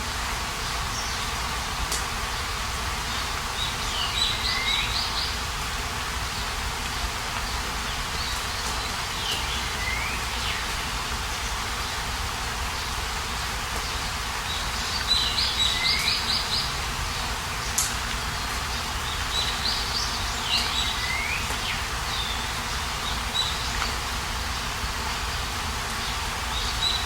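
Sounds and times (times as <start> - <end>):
outdoor noise hiss: 0.0 - 27.0
songbird singing: 2.3 - 5.5, 7.4 - 12.1, 12.7 - 27.0.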